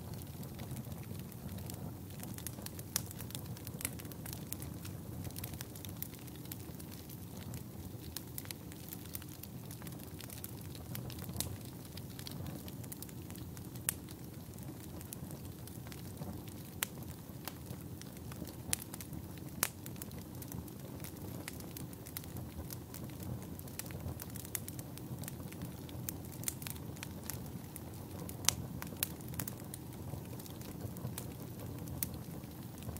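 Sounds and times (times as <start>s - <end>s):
fire crackling and popping: 0.0s - 32.9s
fire rumbling: 0.0s - 32.9s.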